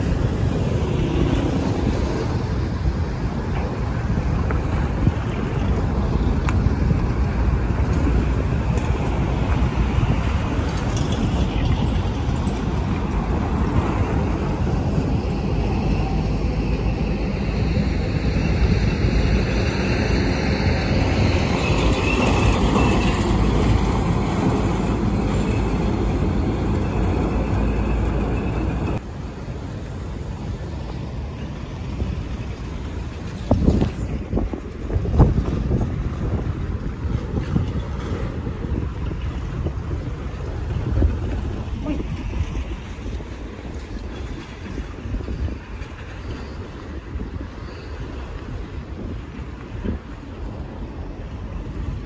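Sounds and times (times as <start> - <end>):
road traffic passing: 0.0 - 52.0
wind rumbling on microphone: 0.0 - 52.0.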